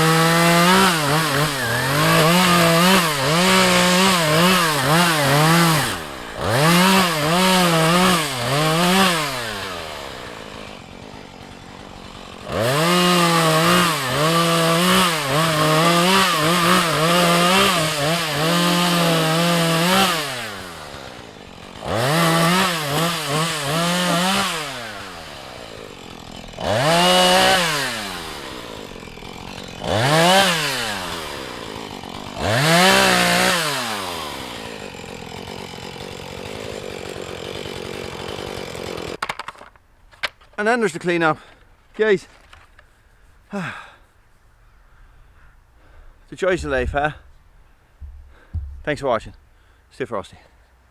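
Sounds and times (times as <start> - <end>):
chainsaw revving and cutting wood: 0.0 - 39.6, 43.5 - 44.1, 45.8 - 47.4, 48.0 - 50.5.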